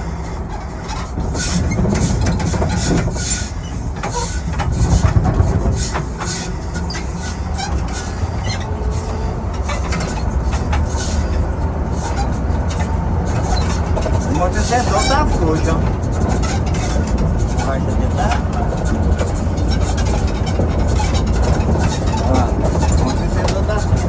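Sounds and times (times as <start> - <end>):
bus engine rumble: 0.0 - 24.0
suspension clunks and rattles: 0.0 - 24.0.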